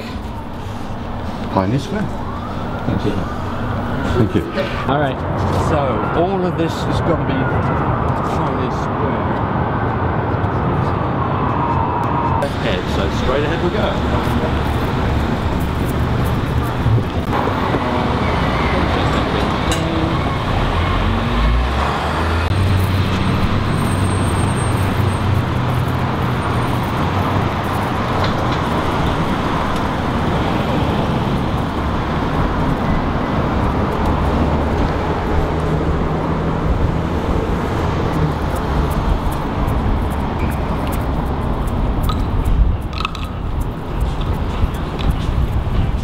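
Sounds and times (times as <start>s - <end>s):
city street traffic: 0.0s - 46.0s.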